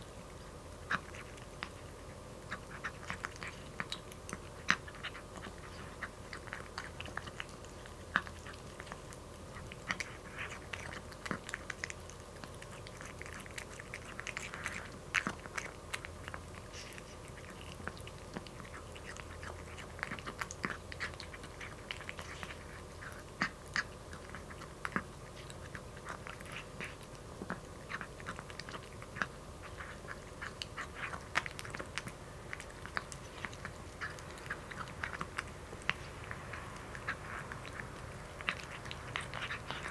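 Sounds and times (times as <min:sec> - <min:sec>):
cat crunching dry kibble: 0:00.0 - 0:39.9.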